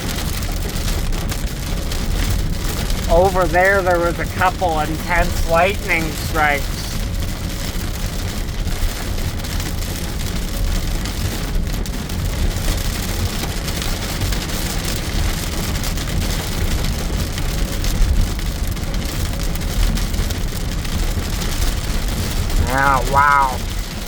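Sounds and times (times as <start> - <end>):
heavy rain on car roof: 0.0 - 24.0
low road rumble: 0.1 - 24.0.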